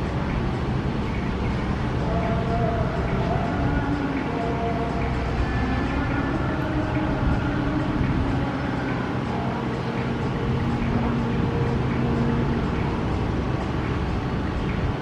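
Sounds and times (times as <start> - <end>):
faint steady tones: 0.0 - 15.0
jet engines rumbling: 0.0 - 15.0.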